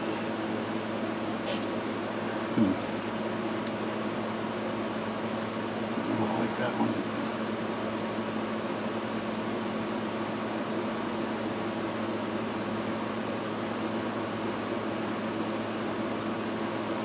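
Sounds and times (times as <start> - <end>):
fan whirring: 0.0 - 17.0
low electrical hum: 0.0 - 17.0.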